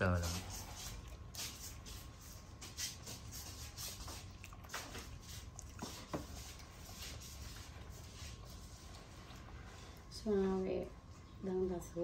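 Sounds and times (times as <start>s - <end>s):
low steady hum: 0.0s - 12.0s
monkey chewing fruit: 0.4s - 10.1s.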